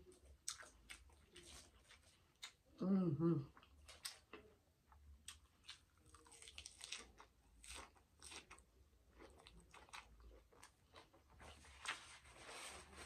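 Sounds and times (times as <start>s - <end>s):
person chewing food: 0.0s - 2.7s, 3.5s - 12.0s.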